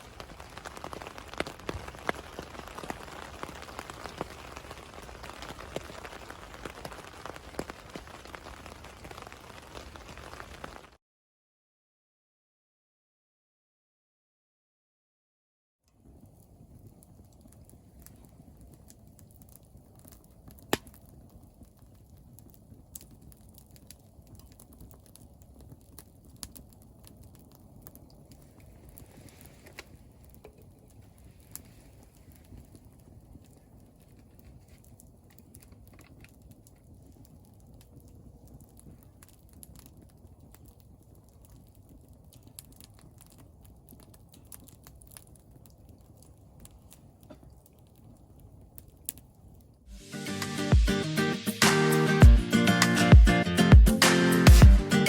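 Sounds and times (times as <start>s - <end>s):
campfire popping: 0.0s - 11.0s, 15.9s - 55.0s
rain: 0.0s - 11.0s, 15.9s - 51.4s.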